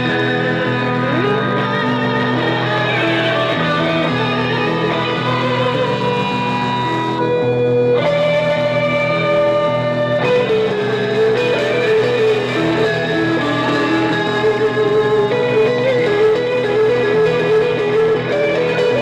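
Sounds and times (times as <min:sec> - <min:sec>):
live instrumental music: 0:00.0 - 0:19.0.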